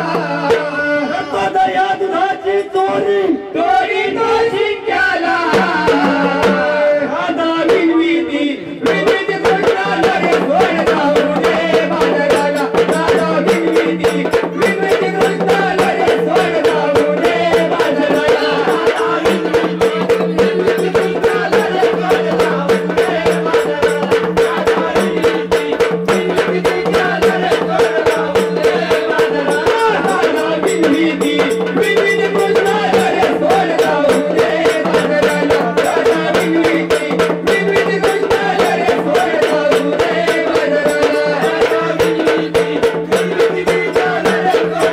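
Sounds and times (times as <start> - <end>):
drums beating: 0.0 - 3.0, 3.7 - 44.9.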